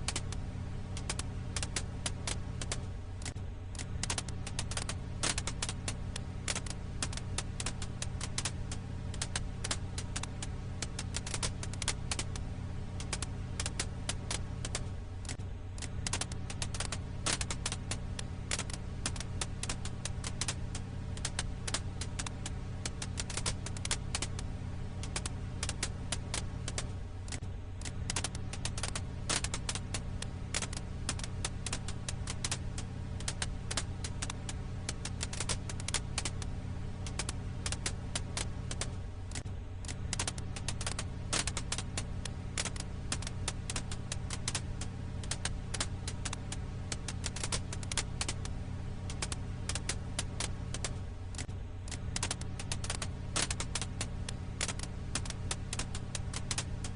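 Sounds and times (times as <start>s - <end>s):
firewood crackling: 0.0s - 56.9s
steady low hum: 0.0s - 56.9s.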